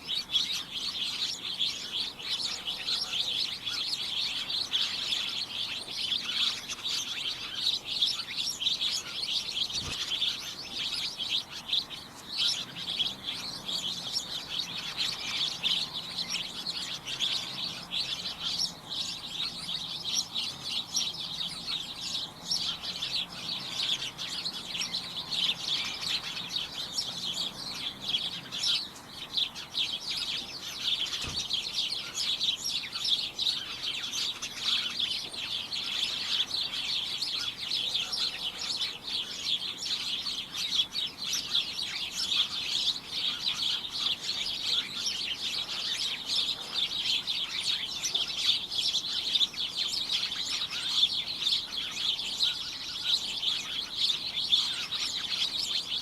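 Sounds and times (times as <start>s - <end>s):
many small birds chirping: 0.0s - 56.0s.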